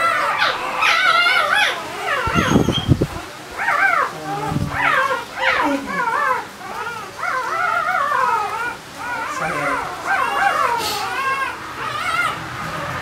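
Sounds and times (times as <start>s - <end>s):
puppy crying: 0.0s - 13.0s.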